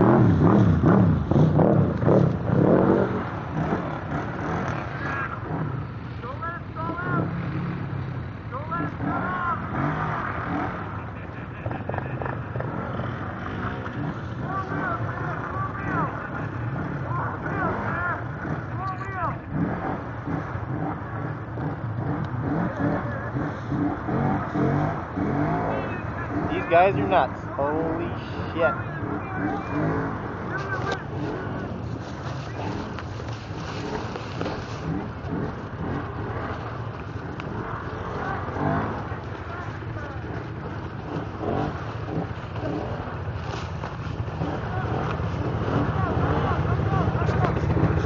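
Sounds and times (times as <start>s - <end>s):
atv engines revving: 0.0s - 48.0s
quads churning through water: 0.0s - 48.0s.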